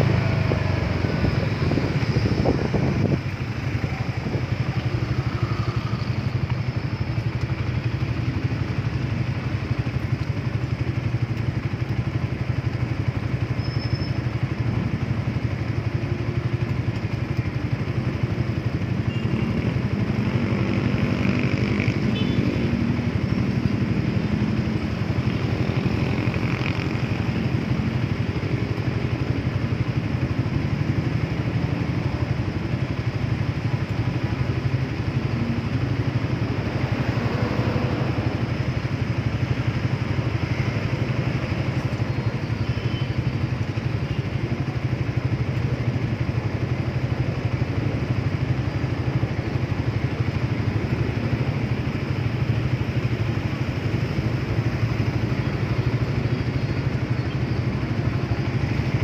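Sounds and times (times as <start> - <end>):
constant rush of noise: 0.0 - 59.0
motorcycle engine running steadily: 0.0 - 59.0.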